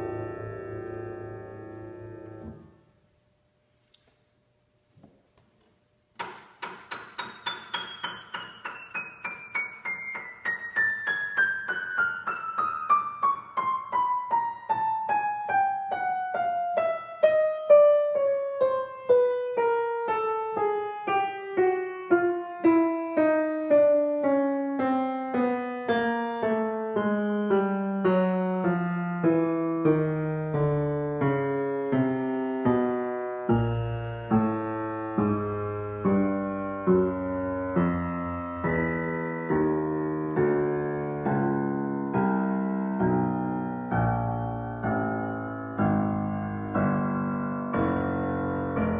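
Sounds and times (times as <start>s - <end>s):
grand piano notes descending: 0.0s - 3.0s, 6.2s - 48.9s.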